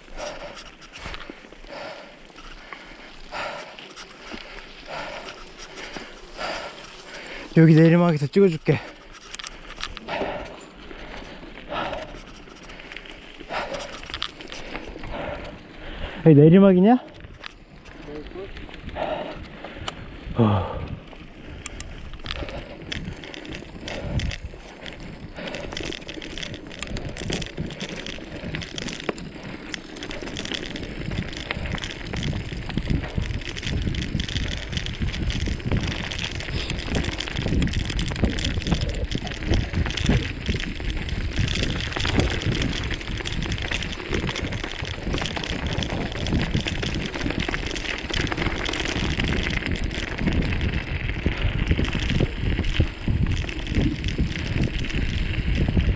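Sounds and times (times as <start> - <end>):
bike tyres rolling over dirt and stones: 0.0 - 55.9.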